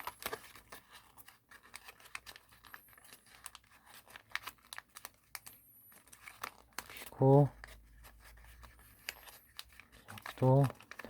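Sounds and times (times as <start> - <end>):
paper crinkling and crackling: 0.0 - 11.0.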